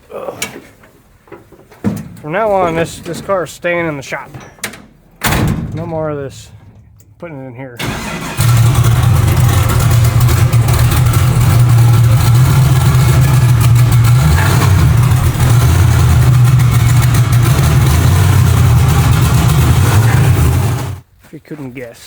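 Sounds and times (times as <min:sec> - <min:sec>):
car engine rumbling: 0:02.2 - 0:21.1.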